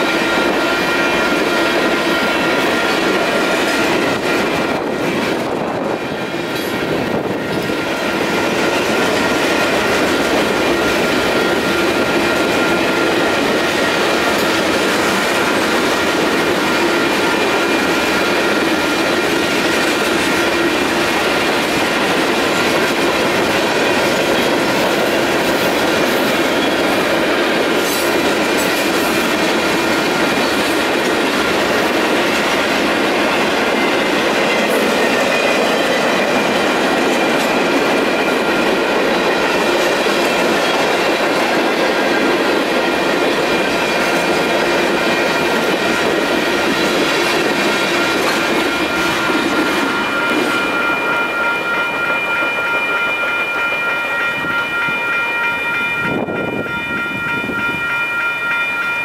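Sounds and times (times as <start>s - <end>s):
steel wheels clattering on rails: 0.0s - 59.0s.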